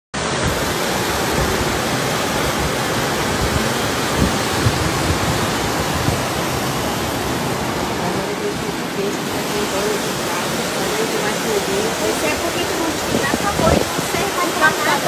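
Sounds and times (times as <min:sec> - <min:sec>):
floodwater rushing: 0:00.2 - 0:15.0.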